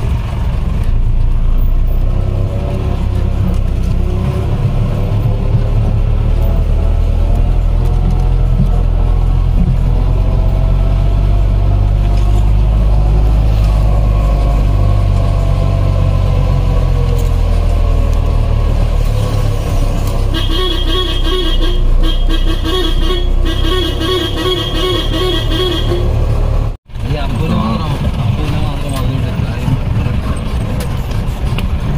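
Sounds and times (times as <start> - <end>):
jeep engine droning: 0.0 - 31.9.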